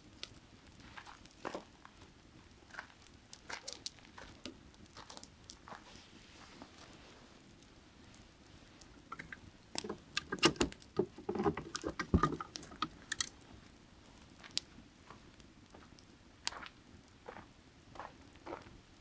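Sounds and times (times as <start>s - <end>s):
firewood crackling and popping: 0.0s - 19.0s.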